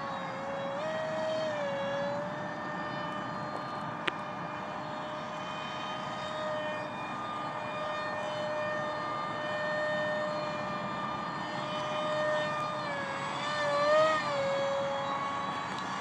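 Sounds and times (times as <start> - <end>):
electric motor propeller whine: 0.0 - 16.0.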